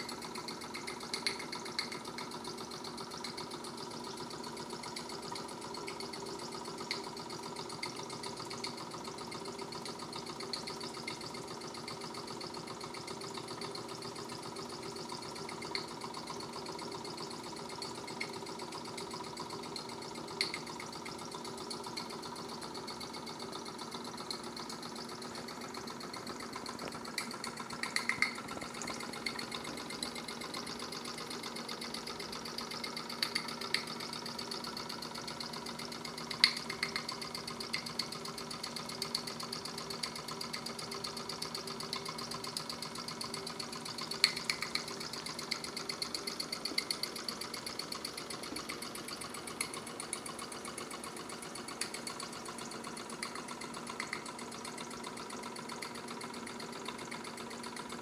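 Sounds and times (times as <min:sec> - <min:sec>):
model steam engine beating: 0:00.0 - 0:58.0
sharp clicks: 0:00.0 - 0:58.0.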